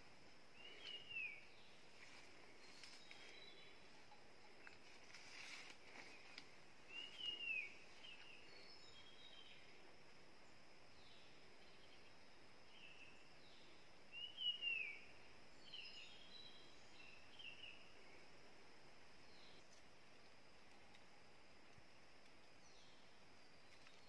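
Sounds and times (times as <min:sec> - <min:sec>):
faint bird chirps: 0:00.0 - 0:18.4, 0:19.2 - 0:24.0
faint high hum: 0:00.0 - 0:24.0.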